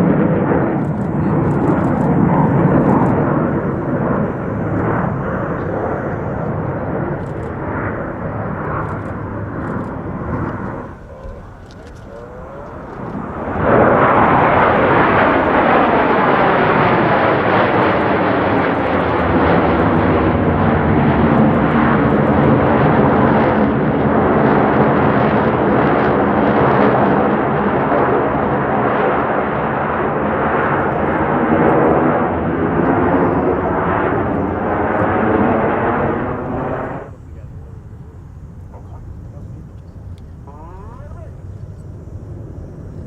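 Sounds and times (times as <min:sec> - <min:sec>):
jet engine noise: 0:00.0 - 0:43.0.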